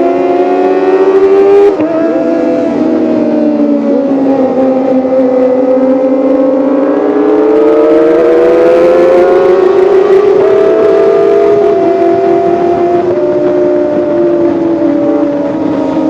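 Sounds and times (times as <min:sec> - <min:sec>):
motorcycle engine at high revs: 0:00.0 - 0:16.0.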